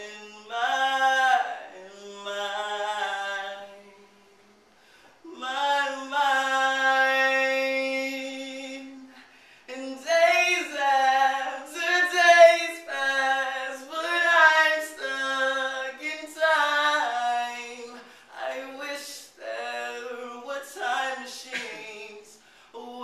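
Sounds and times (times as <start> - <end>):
person singing unaccompanied: 0.0 - 4.5, 5.2 - 23.0.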